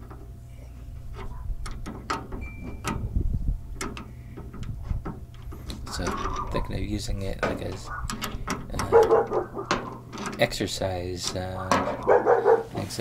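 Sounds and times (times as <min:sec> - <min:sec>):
light handling clicks and knocks: 0:00.0 - 0:00.3, 0:01.0 - 0:06.5, 0:07.1 - 0:13.0
low hum: 0:00.0 - 0:13.0.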